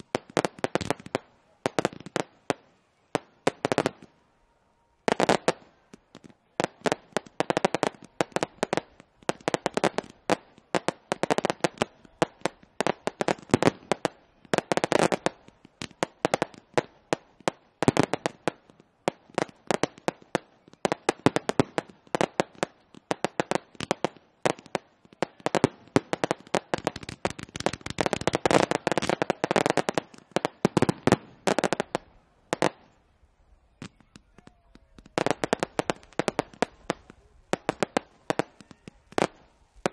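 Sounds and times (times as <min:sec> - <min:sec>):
fireworks crackling: 0:00.0 - 0:39.9
fireworks shells bursting: 0:05.0 - 0:39.9.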